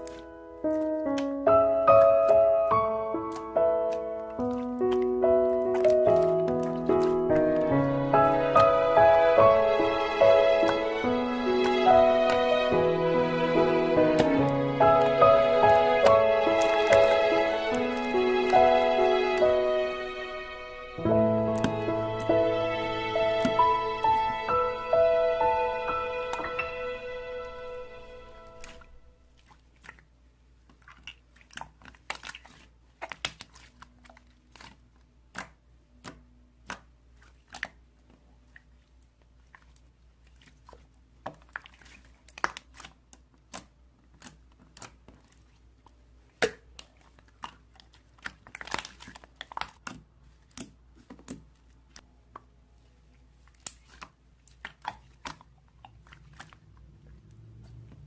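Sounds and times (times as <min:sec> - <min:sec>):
slime being kneaded by hand: 0:00.0 - 0:58.0.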